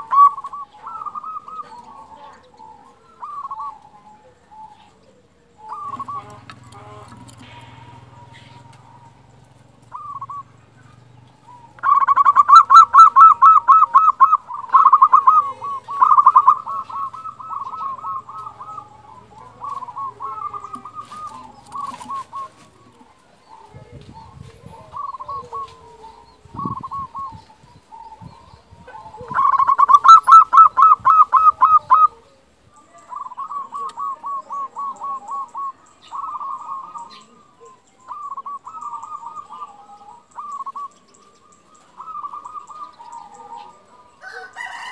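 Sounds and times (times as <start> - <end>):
dove cooing trills: 0.0 - 44.9.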